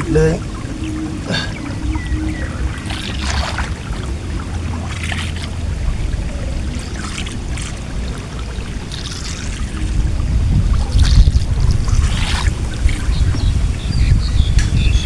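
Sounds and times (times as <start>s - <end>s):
water splashing: 0.0s - 14.3s
steady low rumble: 0.0s - 15.0s.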